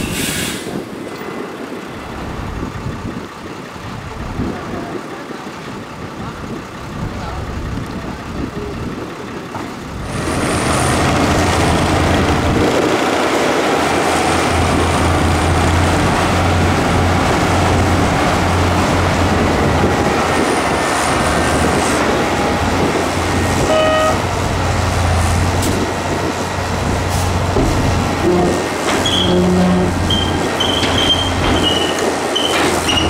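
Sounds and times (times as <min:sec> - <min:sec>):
diesel truck engine rumbling: 0:00.0 - 0:33.0.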